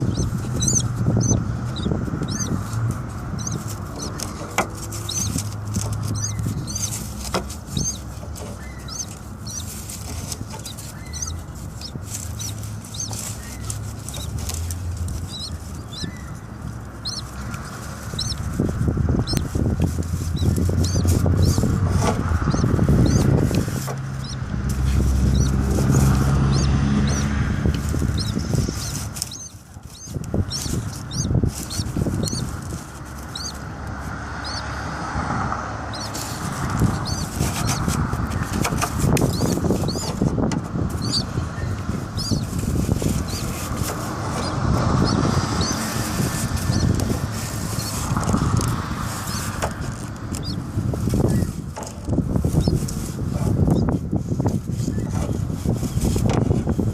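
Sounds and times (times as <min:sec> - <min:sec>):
rustling and wing-flapping: 0:00.0 - 0:34.7, 0:35.9 - 0:56.9
birds chirping: 0:00.0 - 0:56.3.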